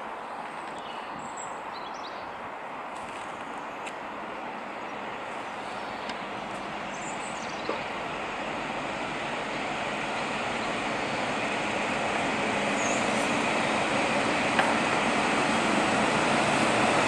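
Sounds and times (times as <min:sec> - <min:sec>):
diesel train engine and wheel rumble: 0:00.0 - 0:17.0.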